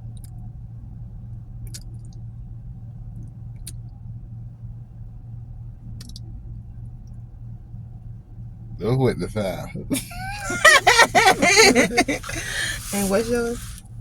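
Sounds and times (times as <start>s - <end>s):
low hum inside a car: 0.0s - 14.0s.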